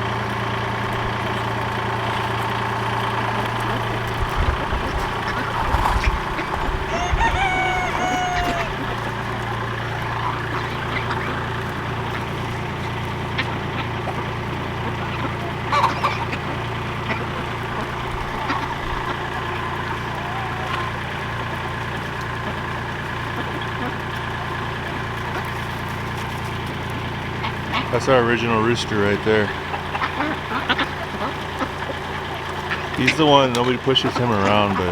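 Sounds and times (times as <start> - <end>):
chickens clucking: 0.0 - 34.9
vehicle engine idling: 0.0 - 34.9.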